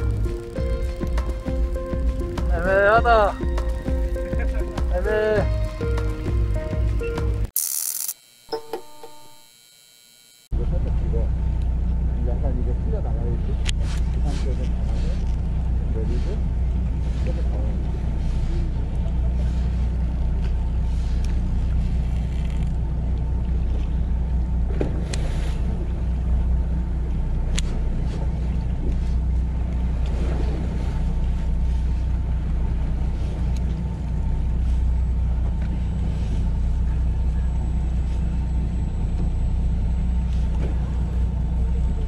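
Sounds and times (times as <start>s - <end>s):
boat engine droning: 0.0s - 7.5s, 8.2s - 42.0s.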